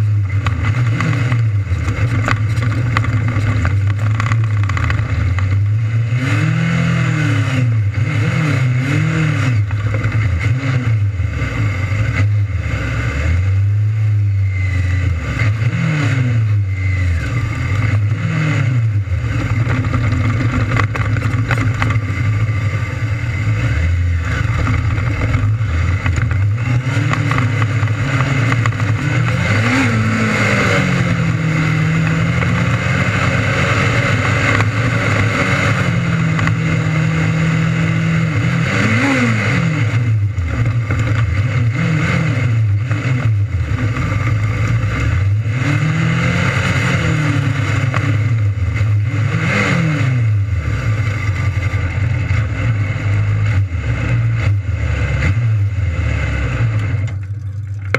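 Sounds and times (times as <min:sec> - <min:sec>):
race car engines revving: 0:00.0 - 0:57.9.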